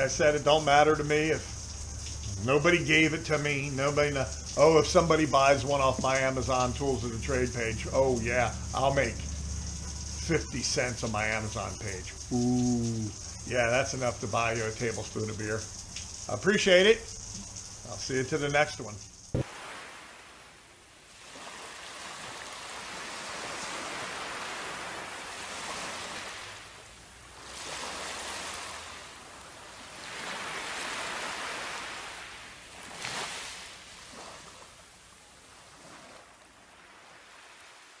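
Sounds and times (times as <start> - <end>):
waves washing on sandy beach: 0.0 - 38.0.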